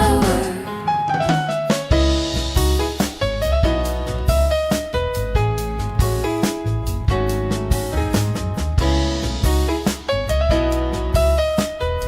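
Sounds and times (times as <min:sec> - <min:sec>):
bass line: 0:00.0 - 0:00.8, 0:01.9 - 0:12.0
piano chords and melody: 0:00.0 - 0:12.0.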